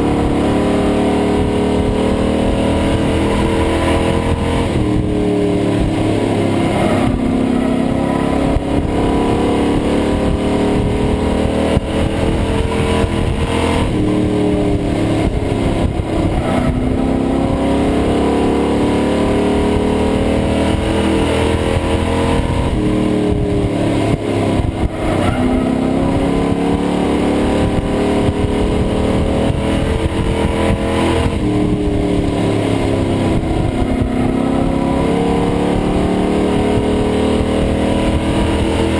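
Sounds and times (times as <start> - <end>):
race truck engine revving: 0.0 - 38.9.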